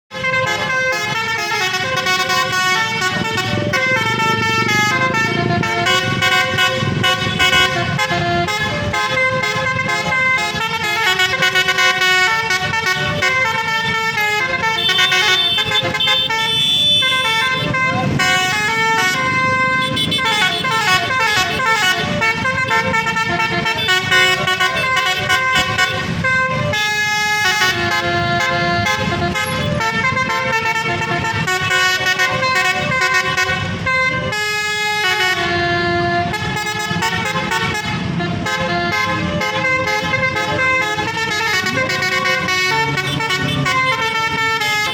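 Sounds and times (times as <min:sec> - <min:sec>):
bus and road rumble: 0:00.0 - 0:44.9
multi-tone bus horn tunes: 0:00.1 - 0:44.9.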